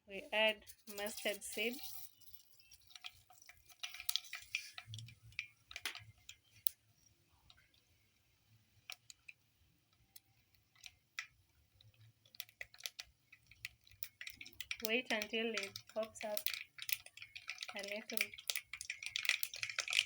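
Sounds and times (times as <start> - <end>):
mustard seeds popping in hot oil: 0.4 - 20.0.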